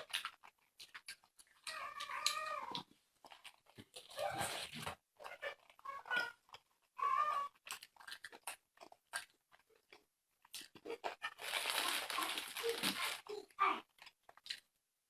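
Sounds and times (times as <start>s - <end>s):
crunching chewing: 0.0s - 14.7s
close chewing and mouth sounds: 0.0s - 14.8s.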